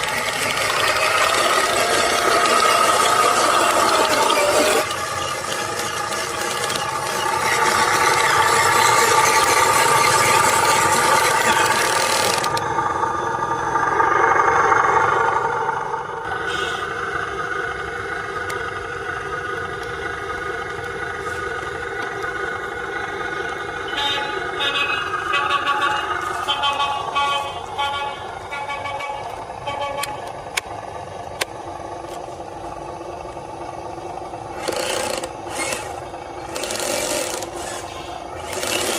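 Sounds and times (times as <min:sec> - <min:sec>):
model truck motor whining: 0:00.0 - 0:15.6, 0:16.2 - 0:38.9.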